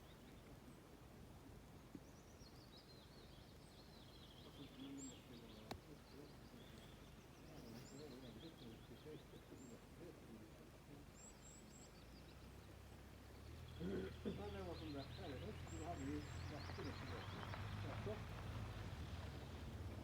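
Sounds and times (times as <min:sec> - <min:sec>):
faint birdsong: 0:00.0 - 0:20.0.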